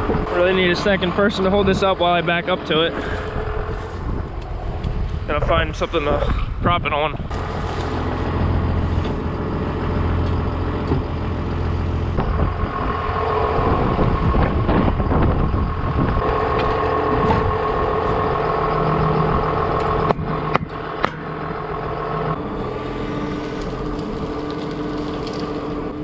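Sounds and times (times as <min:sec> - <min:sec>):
tractor diesel engine running: 0:00.0 - 0:06.2, 0:07.2 - 0:26.0.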